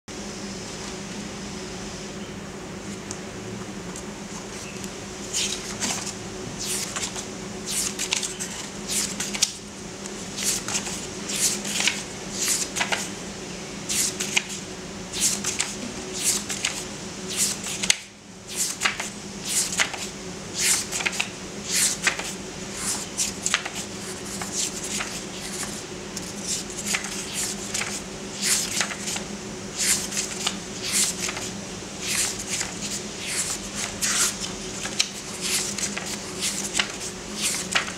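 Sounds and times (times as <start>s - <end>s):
steady low hum: 0.1s - 37.9s
book pages rustling: 4.3s - 9.6s, 10.3s - 13.1s, 15.2s - 37.9s.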